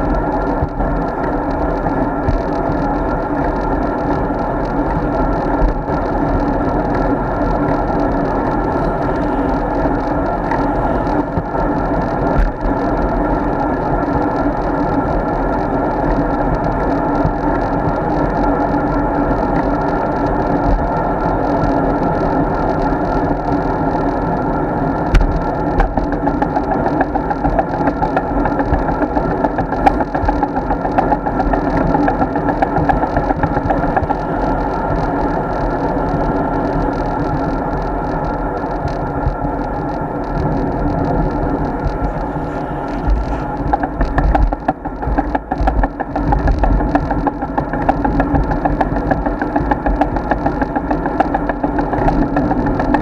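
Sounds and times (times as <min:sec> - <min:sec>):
bike road noise: 0:00.0 - 0:53.0
wind noise: 0:00.0 - 0:53.0.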